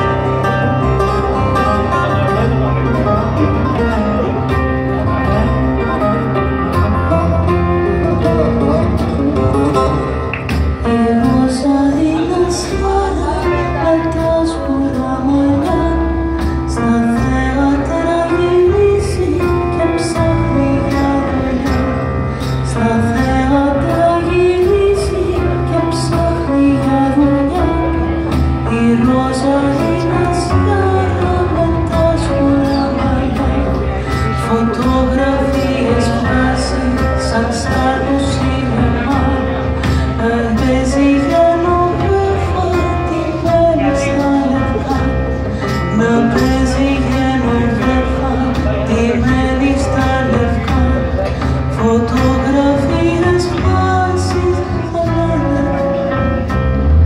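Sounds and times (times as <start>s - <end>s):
electric bass line: 0.0s - 57.0s
plucked string instrument: 0.0s - 57.0s.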